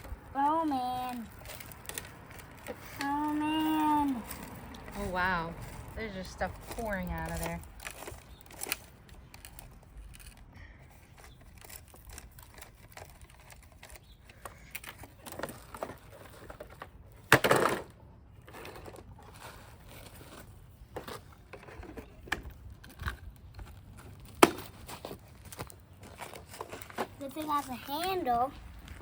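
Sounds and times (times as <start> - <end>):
dirt and debris rustling: 0.0 - 17.2, 18.3 - 29.0.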